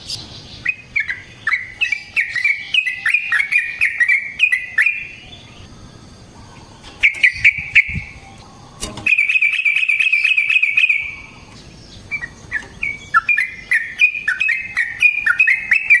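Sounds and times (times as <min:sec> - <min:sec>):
bird singing: 0:00.0 - 0:16.0.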